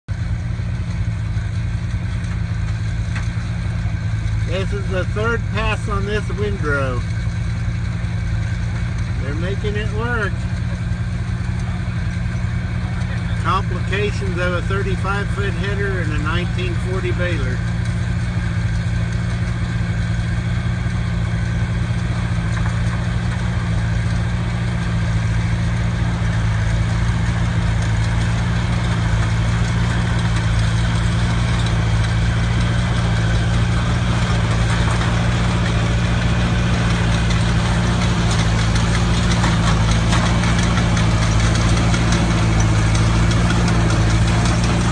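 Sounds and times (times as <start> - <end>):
heavy farm machinery engine: 0.0 - 44.9.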